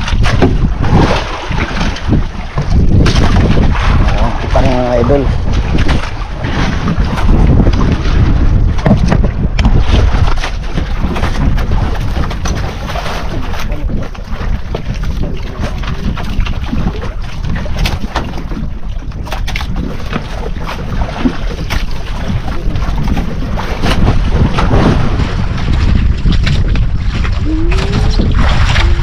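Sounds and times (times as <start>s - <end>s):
boat engine rumble: 0.0s - 29.0s
knocks and clatter of fishing line: 0.0s - 29.0s
wind buffeting microphone: 0.0s - 29.0s.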